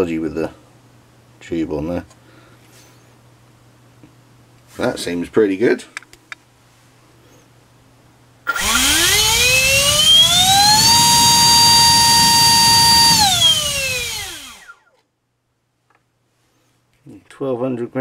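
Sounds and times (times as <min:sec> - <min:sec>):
electric ducted fan whine: 0:00.0 - 0:18.0.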